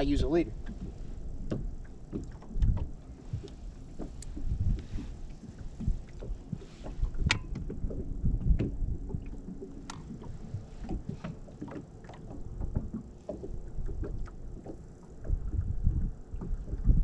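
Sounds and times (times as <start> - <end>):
water slapping boat hull: 0.0 - 17.0.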